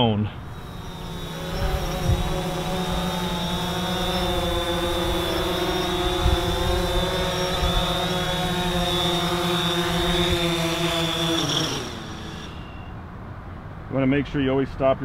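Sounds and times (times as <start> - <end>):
drone propellers buzzing: 0.0 - 13.2.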